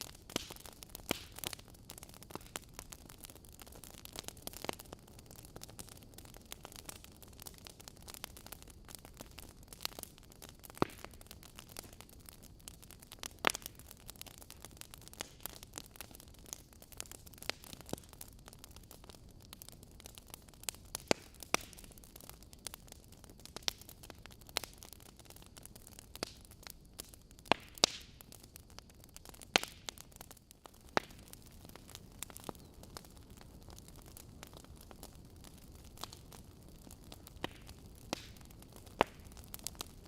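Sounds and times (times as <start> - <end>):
sharp pops from fire: 0.0 - 40.0
wood fire crackling: 0.0 - 40.0.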